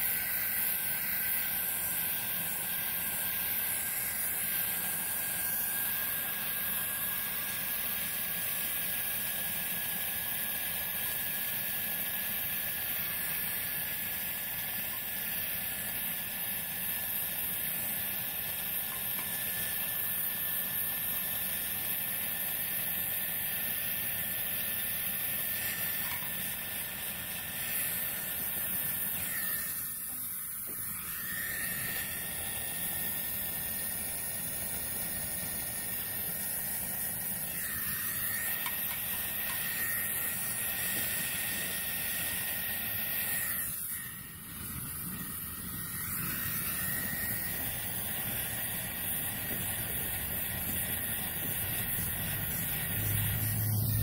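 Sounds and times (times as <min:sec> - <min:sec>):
faint steady whistle: 0:00.0 - 0:54.0
torch flame hissing: 0:00.0 - 0:54.0.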